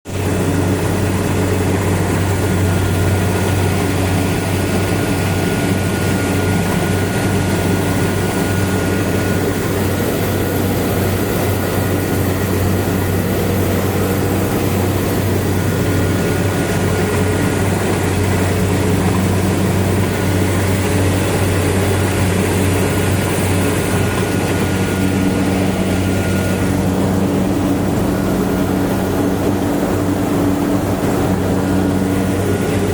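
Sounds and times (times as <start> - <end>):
combine harvester engine drone: 0.1 - 32.9
high whine: 0.1 - 32.9.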